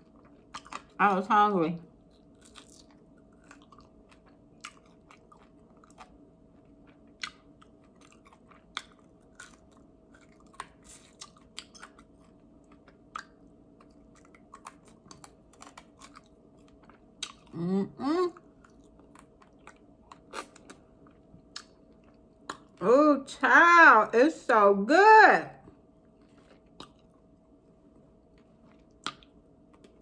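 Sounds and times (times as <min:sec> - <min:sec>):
chewing and gnawing: 0:00.0 - 0:01.0, 0:01.9 - 0:17.6, 0:18.3 - 0:22.8, 0:25.7 - 0:30.0
faint steady hum: 0:00.0 - 0:30.0.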